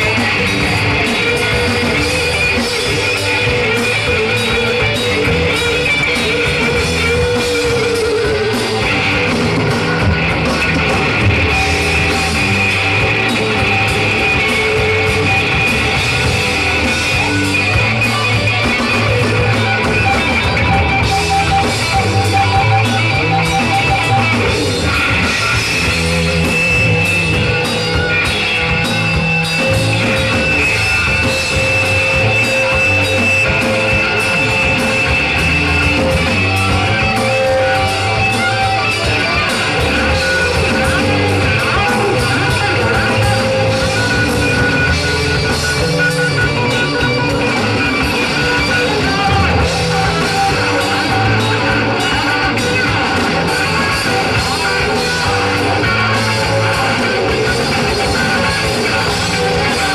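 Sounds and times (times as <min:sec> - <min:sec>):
live rock band playing: 0:00.0 - 0:59.9
long held guitar notes: 0:00.0 - 0:59.9.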